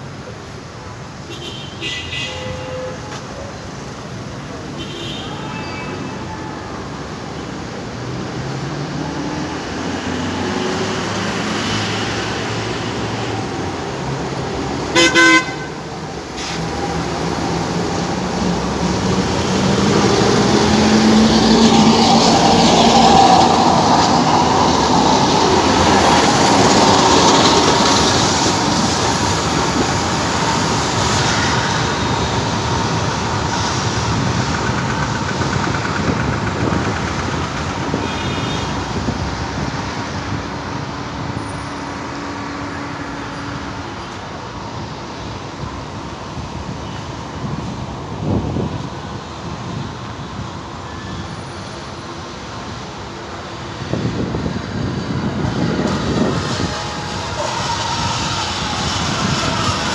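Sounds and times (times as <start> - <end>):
tram passing on rails: 0.0 - 59.9.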